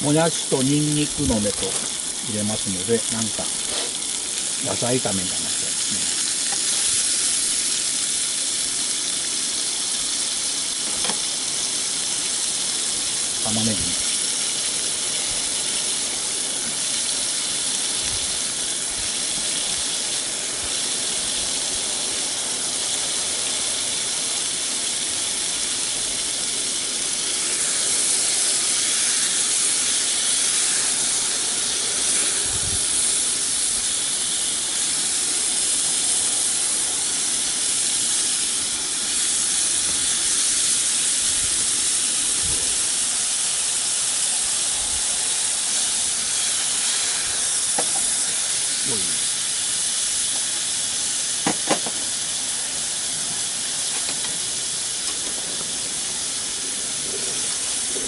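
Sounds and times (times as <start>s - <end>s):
vegetables sizzling in skillet: 0.0s - 58.0s.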